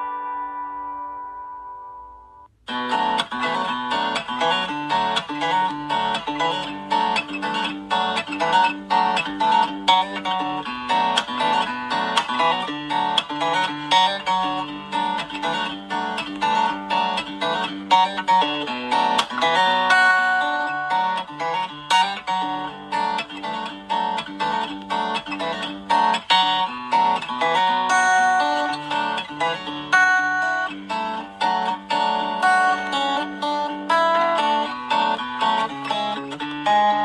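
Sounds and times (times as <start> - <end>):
plucked guitar tune: 0.0 - 37.0.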